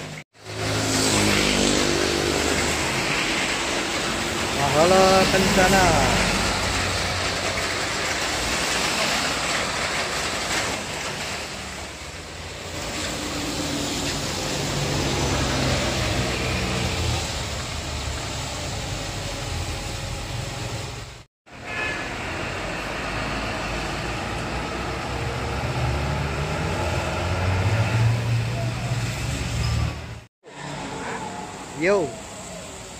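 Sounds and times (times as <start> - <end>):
bus and truck engines droning: 0.0 - 32.9
tyres hissing on wet road: 0.0 - 32.9.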